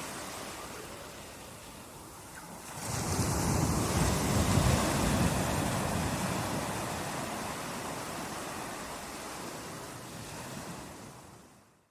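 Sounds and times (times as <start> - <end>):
sea surf washing on beach: 0.0 - 11.7.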